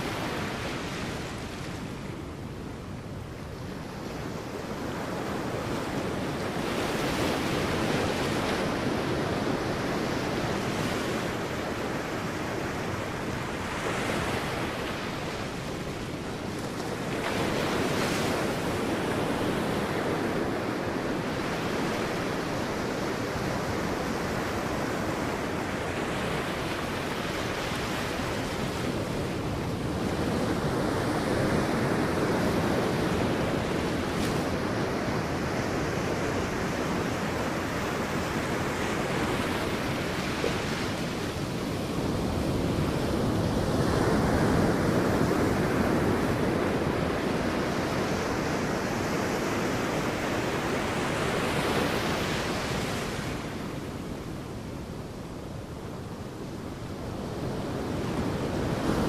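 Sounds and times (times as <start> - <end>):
sea waves breaking on beach: 0.0 - 59.0.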